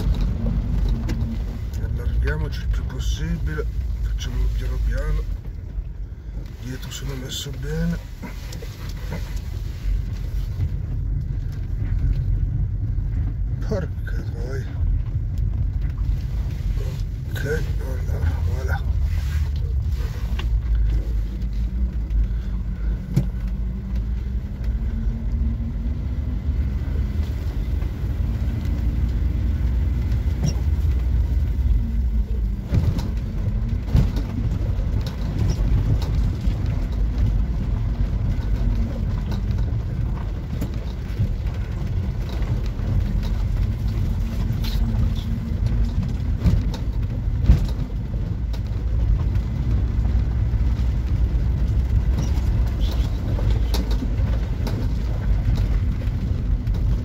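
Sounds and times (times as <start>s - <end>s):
van engine running at low speed: 0.0s - 57.0s.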